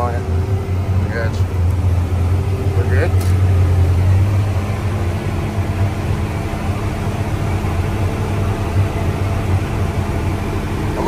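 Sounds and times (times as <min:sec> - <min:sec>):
engine droning hum: 0:00.0 - 0:11.0.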